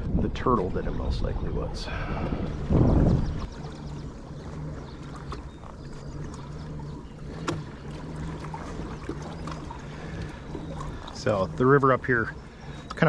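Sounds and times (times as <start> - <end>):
low mechanical hum: 0.0 - 13.0
wind on microphone: 0.0 - 13.0.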